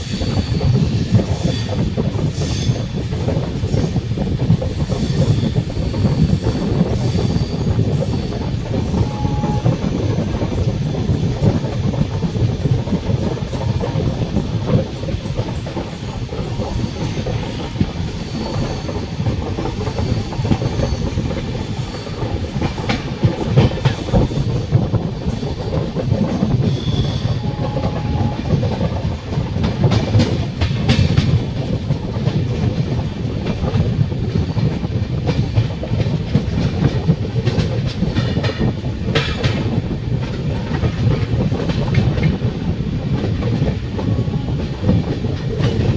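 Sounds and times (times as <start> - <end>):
train wheels clattering on track: 0.0 - 45.9.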